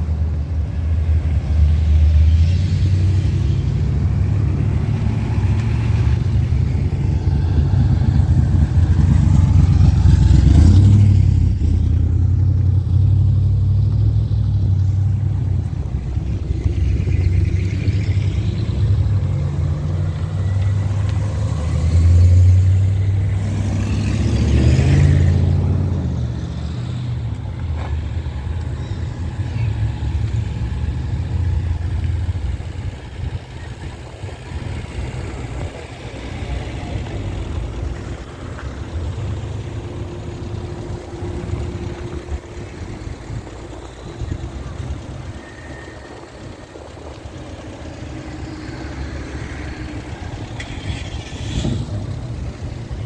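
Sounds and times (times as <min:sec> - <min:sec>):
cars driving slowly past: 0:00.0 - 0:53.0.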